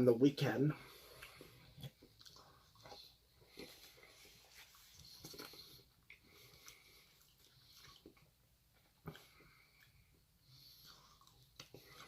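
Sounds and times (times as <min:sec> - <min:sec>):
soft rustles of eating: 0:00.0 - 0:12.0.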